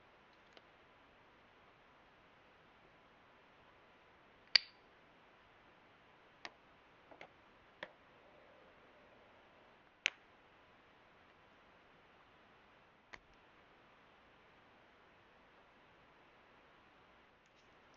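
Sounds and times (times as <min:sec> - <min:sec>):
faint hiss: 0:00.0 - 0:17.9.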